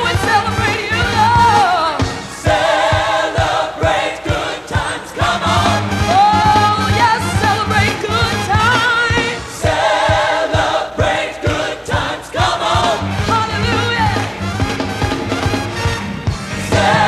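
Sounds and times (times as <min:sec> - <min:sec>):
gospel choir singing: 0:00.0 - 0:14.4, 0:16.5 - 0:17.0
bass: 0:00.0 - 0:17.0
steady drum beat: 0:00.0 - 0:17.0.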